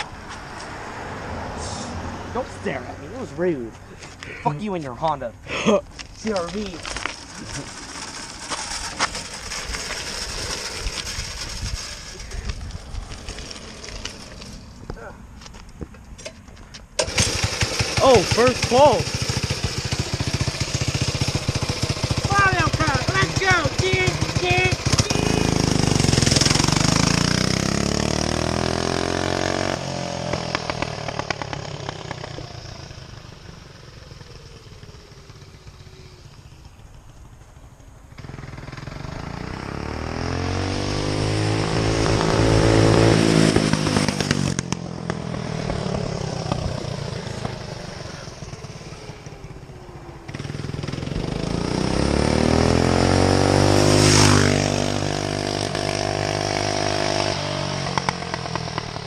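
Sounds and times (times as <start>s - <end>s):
go-kart engine revving past: 0.5s - 3.5s, 6.2s - 15.1s, 17.0s - 59.0s.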